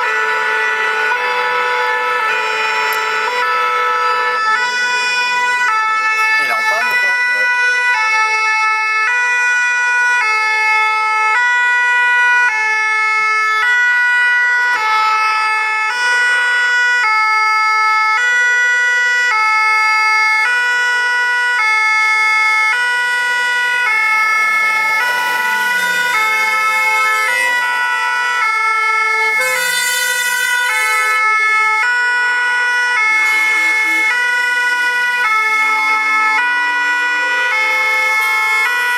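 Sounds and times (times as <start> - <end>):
two-tone fire engine sirens: 0.0 - 38.9.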